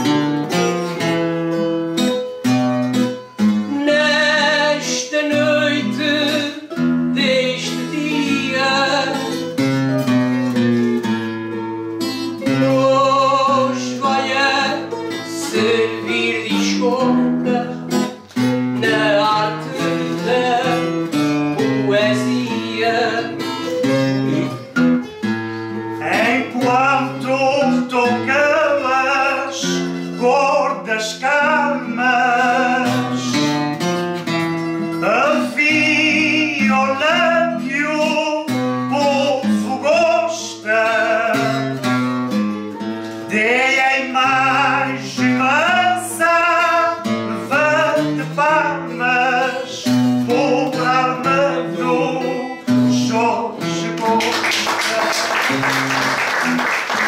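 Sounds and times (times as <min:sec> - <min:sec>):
plucked string folk music: 0:00.0 - 0:57.0.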